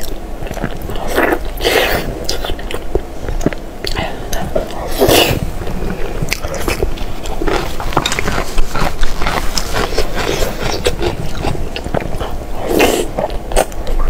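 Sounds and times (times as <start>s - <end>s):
wet chewing and biting food: 0.0s - 14.0s.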